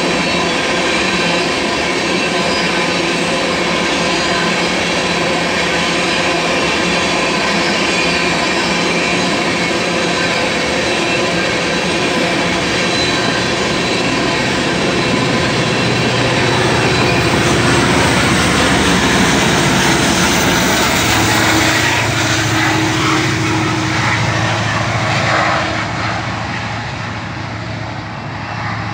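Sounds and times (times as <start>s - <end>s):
diesel locomotive engine drone: 0.0s - 28.9s
train wheels on rails: 0.0s - 28.9s.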